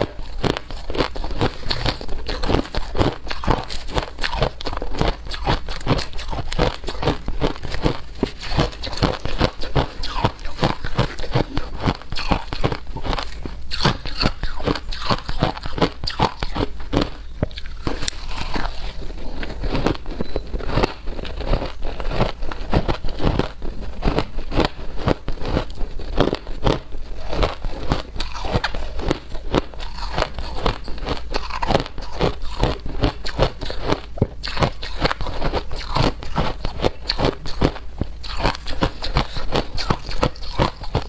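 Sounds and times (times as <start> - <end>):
ice crunching while chewed: 0.0 - 41.0.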